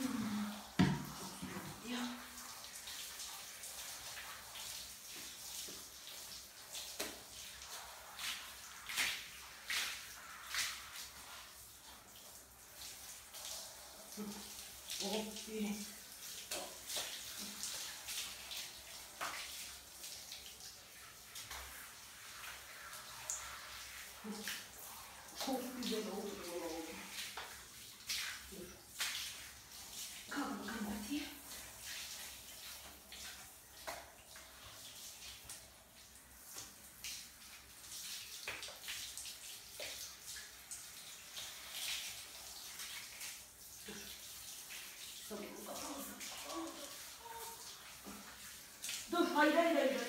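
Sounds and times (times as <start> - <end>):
shower water spraying on dog: 0.0 - 50.0
water splashes: 0.0 - 50.0.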